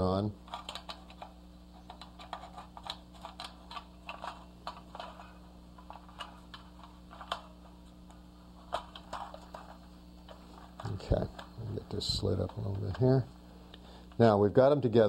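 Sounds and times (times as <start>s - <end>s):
magazines clicking and tapping: 0.4s - 14.3s.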